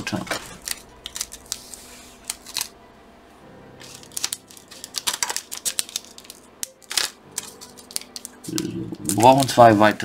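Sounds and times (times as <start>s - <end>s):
plastic bag crinkling: 0.1s - 2.8s, 3.8s - 9.7s.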